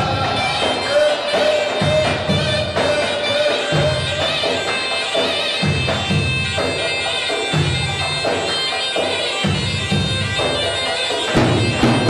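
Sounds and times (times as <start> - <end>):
shrill reedy wind instrument: 0.0 - 12.0.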